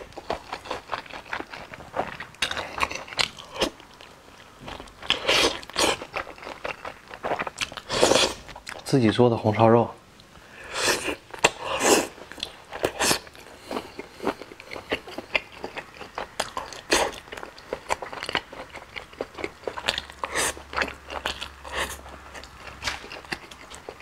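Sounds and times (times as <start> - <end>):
person chewing food: 0.0 - 8.9, 10.2 - 24.0.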